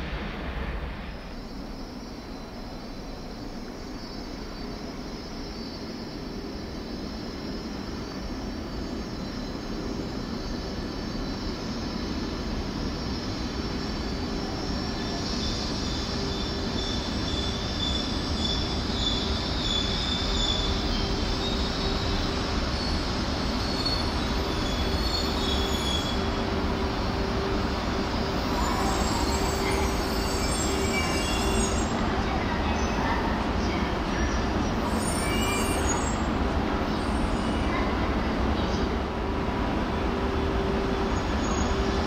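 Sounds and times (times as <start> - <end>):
train running with whine: 0.0 - 42.0.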